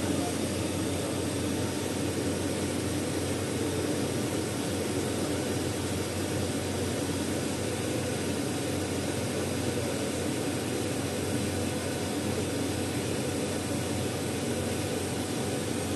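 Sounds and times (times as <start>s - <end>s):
laser cutter fans rushing: 0.0s - 15.9s.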